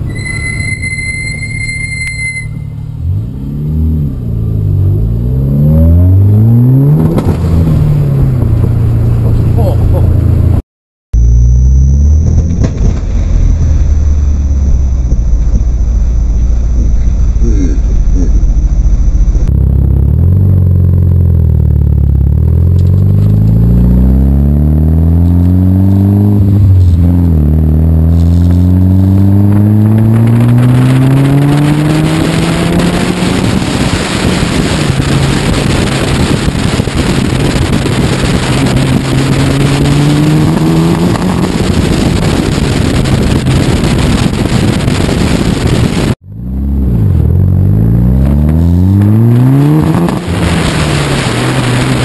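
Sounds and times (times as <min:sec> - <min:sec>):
car engine accelerating hard: 0:02.9 - 0:10.6, 0:11.2 - 0:52.0.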